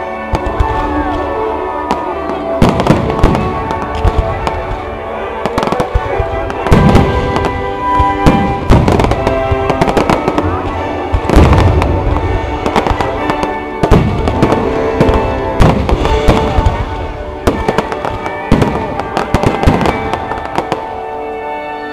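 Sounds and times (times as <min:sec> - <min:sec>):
fireworks bangs and crackles: 0:00.0 - 0:21.9
music: 0:00.0 - 0:21.9
heavy fireworks booms: 0:00.2 - 0:21.4.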